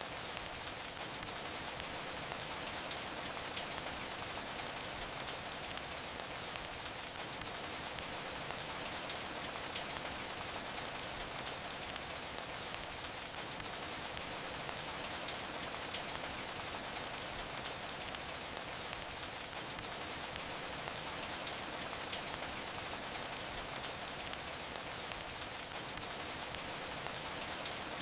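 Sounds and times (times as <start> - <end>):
steady rain: 0.0 - 28.0
wood fire crackling: 0.0 - 28.0.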